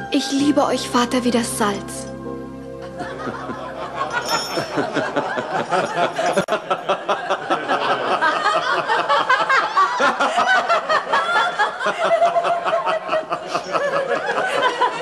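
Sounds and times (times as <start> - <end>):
group of people laughing: 2.8 - 15.0.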